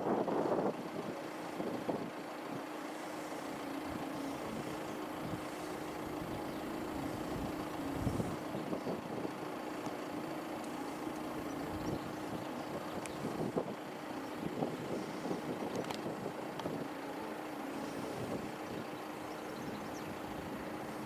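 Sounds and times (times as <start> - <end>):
outdoor background noise: 0.0 - 21.0
vehicle engine humming: 0.0 - 21.0.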